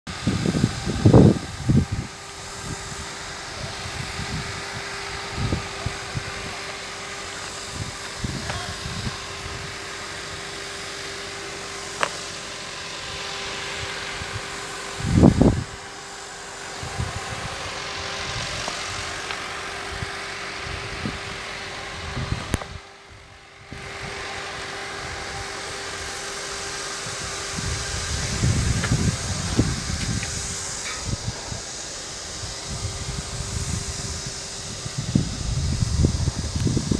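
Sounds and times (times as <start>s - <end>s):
machinery humming: 0.1s - 36.9s.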